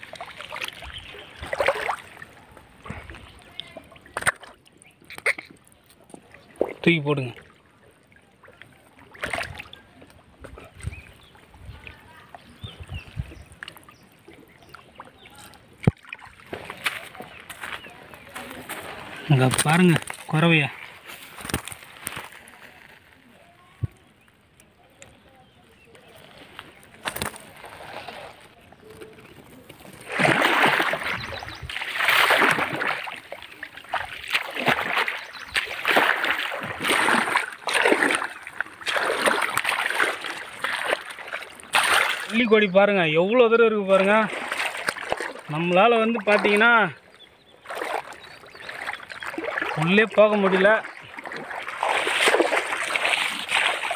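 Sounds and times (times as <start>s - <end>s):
water sloshing and splashing: 0.0s - 53.9s.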